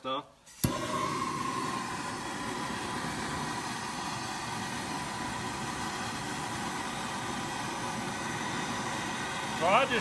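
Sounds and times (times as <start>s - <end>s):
propane torch hissing: 0.5s - 10.0s.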